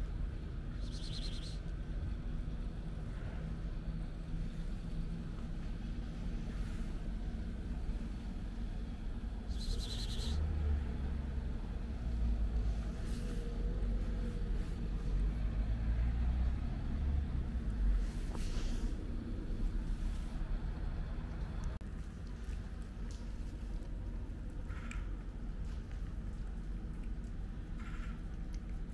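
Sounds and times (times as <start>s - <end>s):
low outdoor rumble: 0.0s - 28.9s.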